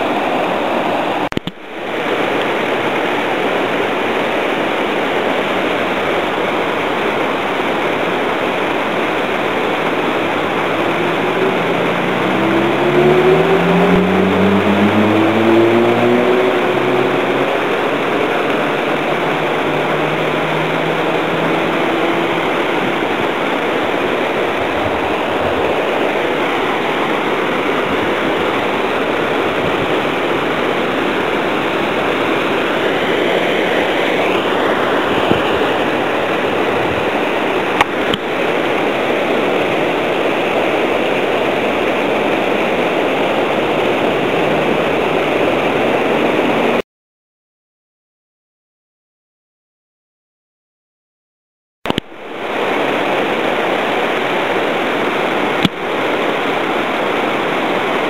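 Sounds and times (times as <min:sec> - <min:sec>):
river water rushing: 0:00.0 - 0:46.8, 0:51.9 - 0:58.0.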